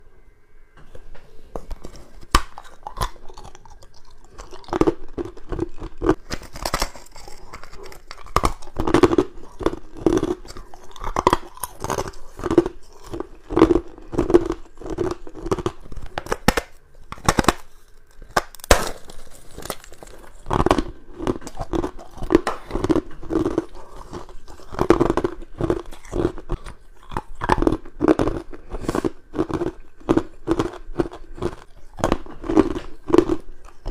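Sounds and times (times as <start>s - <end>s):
ice cubes being chewed: 1.6s - 33.9s.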